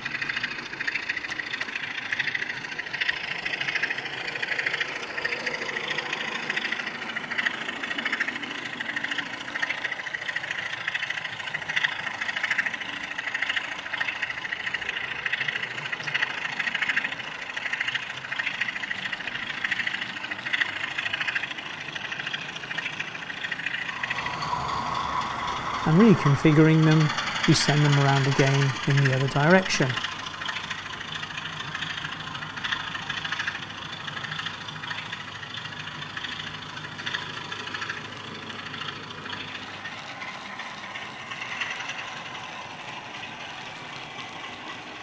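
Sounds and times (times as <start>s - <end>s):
model train running on track: 0.0s - 45.0s.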